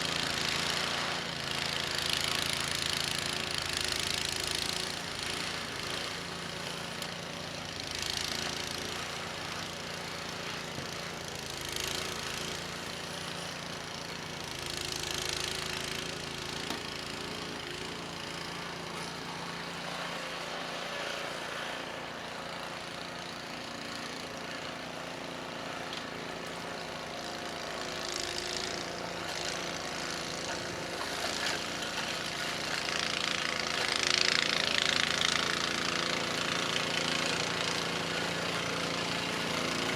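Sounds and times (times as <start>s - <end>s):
snowblower running under load: 0.0s - 39.9s.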